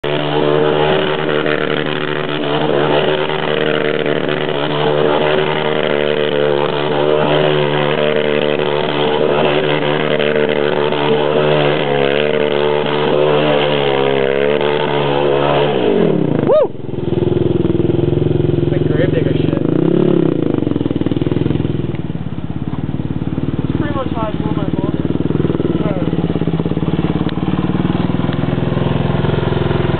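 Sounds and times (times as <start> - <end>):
atv engine revving: 0.0 - 29.9.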